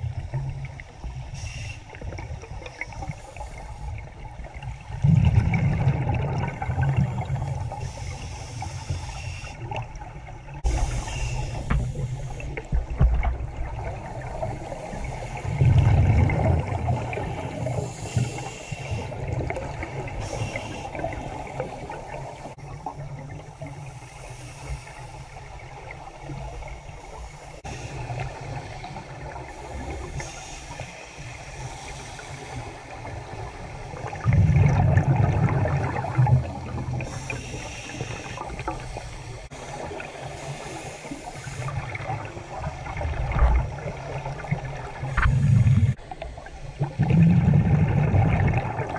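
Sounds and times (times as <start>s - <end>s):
muffled water noise: 0.0s - 48.9s
regulator bubbles underwater: 0.0s - 48.9s.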